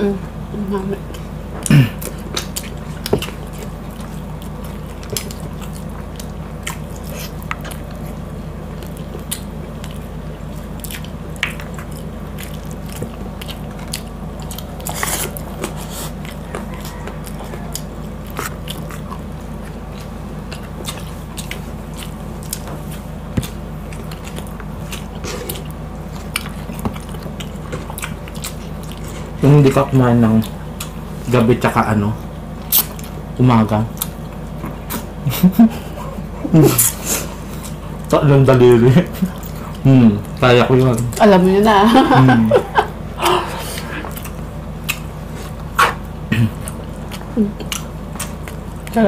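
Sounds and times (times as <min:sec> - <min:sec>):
steady low hum: 0:00.0 - 0:49.0
chewing and mouth sounds: 0:01.0 - 0:41.5, 0:43.2 - 0:49.0.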